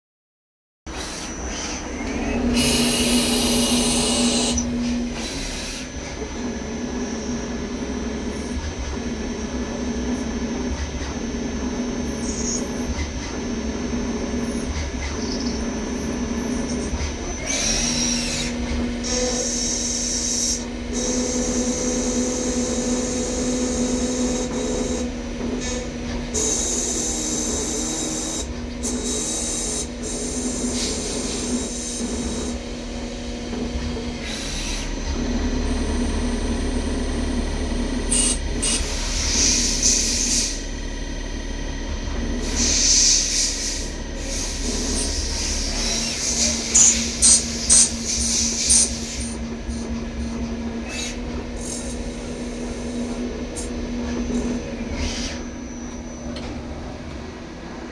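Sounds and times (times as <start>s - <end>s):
cnc machine motor hum: 0.9s - 57.9s.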